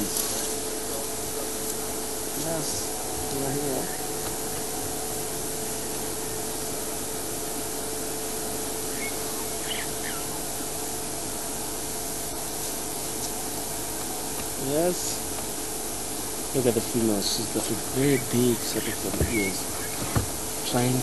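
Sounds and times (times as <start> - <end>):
faint constant hum: 0.0 - 21.0
steady hiss: 0.0 - 21.0.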